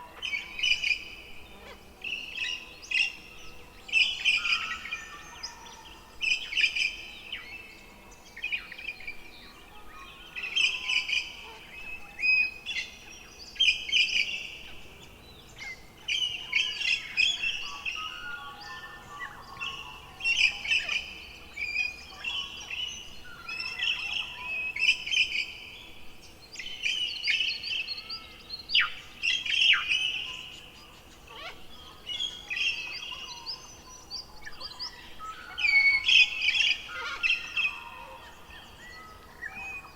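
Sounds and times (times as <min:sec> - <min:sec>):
songbirds warbling: 0:00.0 - 0:39.9.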